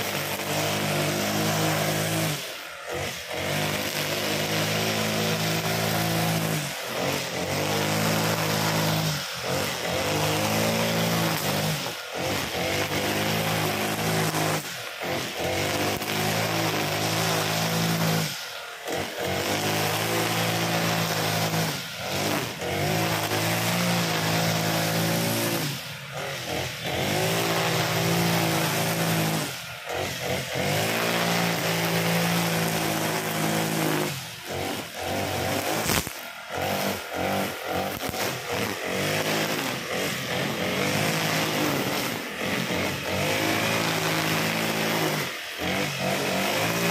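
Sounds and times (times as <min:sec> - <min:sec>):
brush cutter engine revving: 0:00.0 - 0:46.9
nylon line cutting grass: 0:00.0 - 0:46.9.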